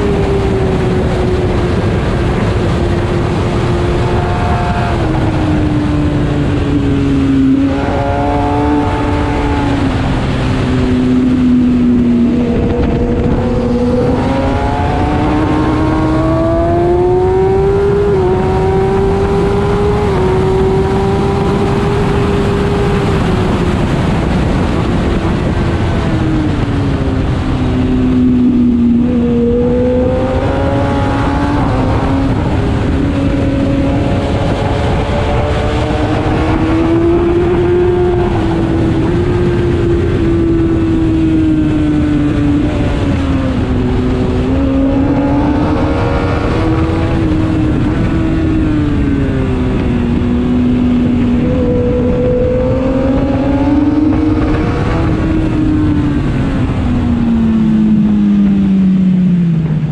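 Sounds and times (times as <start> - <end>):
wind rushing: 0.0 - 58.8
motorcycle engine accelerating: 0.0 - 59.9.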